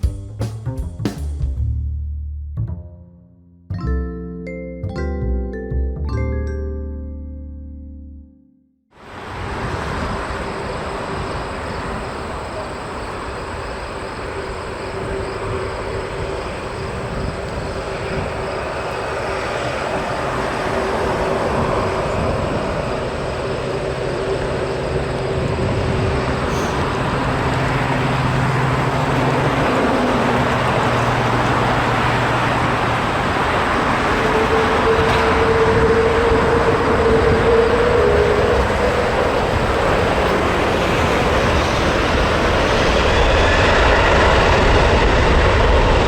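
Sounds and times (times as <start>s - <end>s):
jet engines running: 9.0s - 46.0s.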